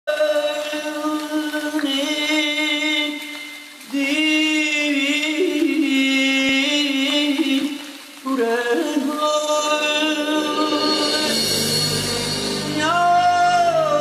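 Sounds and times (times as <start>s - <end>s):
solo singer holding long notes: 0.1s - 14.0s.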